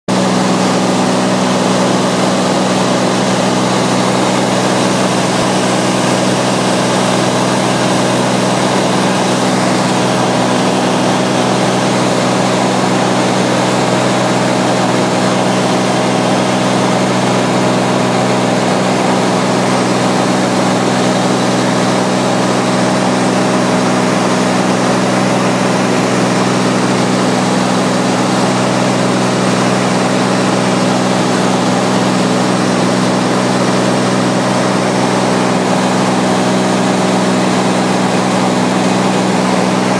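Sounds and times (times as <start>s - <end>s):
propeller plane engine drone: 0.1s - 39.9s.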